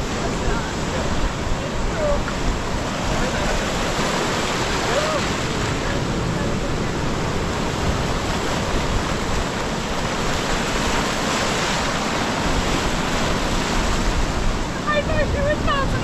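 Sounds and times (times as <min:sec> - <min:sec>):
sea surf rushing: 0:00.0 - 0:16.0
wind rumbling on microphone: 0:00.0 - 0:16.0.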